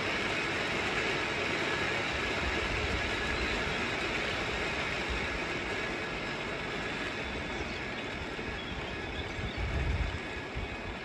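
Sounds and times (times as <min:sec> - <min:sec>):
cliff railway car rumbling on rails: 0:00.0 - 0:11.0.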